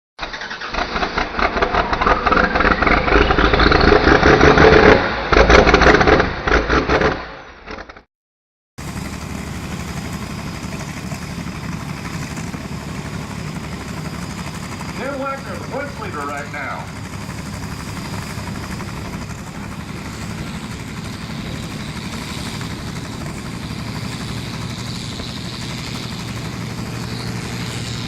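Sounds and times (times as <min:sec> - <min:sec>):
engine revving: 0:00.3 - 0:08.0, 0:08.8 - 0:28.0
steady engine drone: 0:00.6 - 0:07.4, 0:08.8 - 0:28.0.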